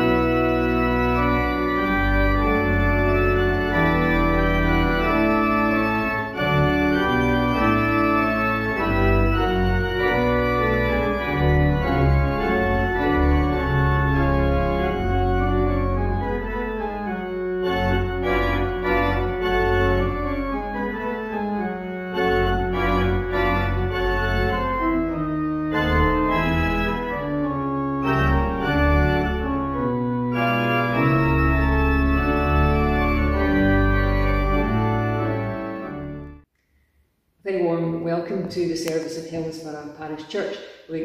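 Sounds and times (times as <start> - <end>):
organ music: 0.0 - 36.5.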